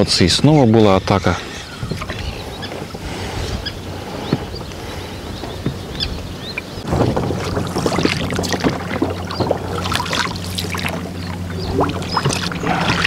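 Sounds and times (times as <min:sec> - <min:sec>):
boat motor humming: 0:00.0 - 0:13.0
water lapping against hull: 0:00.0 - 0:13.0.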